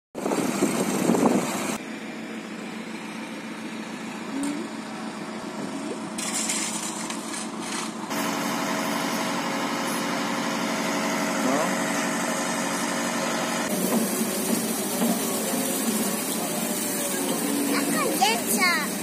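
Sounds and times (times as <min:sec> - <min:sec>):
heavy vehicle engines running: 0:00.2 - 0:19.0.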